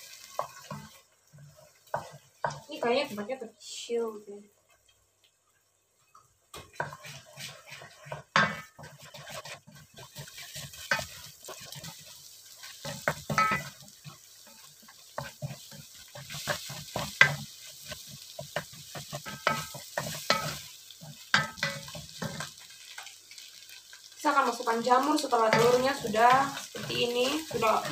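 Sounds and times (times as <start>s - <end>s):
wooden spatula scraping a pot: 0.0s - 3.2s, 6.6s - 22.6s, 24.6s - 27.9s
eggs sizzling: 0.0s - 27.9s.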